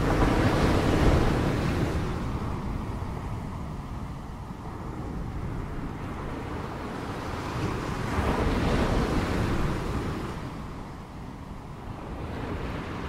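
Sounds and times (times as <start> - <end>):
ocean waves on shore: 0.0 - 13.0.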